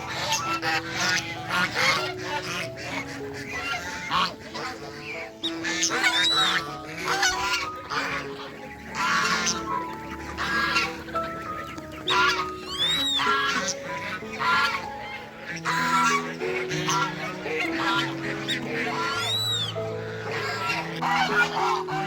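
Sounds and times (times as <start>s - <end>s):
geese honking: 0.0s - 22.0s
music with long held notes: 0.0s - 22.0s.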